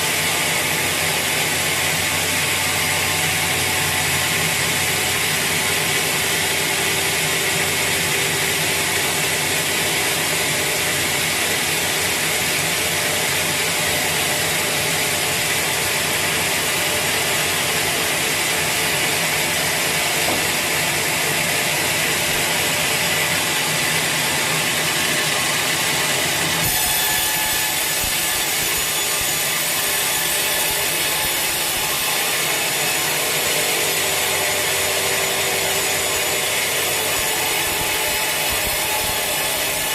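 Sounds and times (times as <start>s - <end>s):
saw rasping through log: 0.0s - 39.9s.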